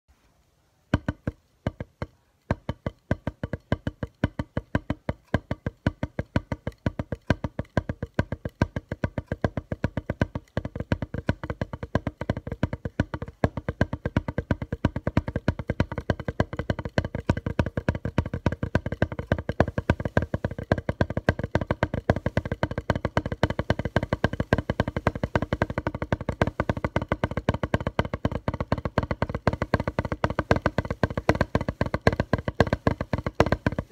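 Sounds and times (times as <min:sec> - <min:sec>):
drumstick striking practice pad: 0:00.9 - 0:33.9.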